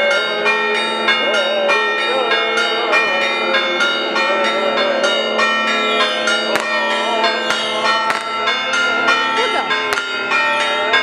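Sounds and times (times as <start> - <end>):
church bells pealing: 0.0 - 11.0.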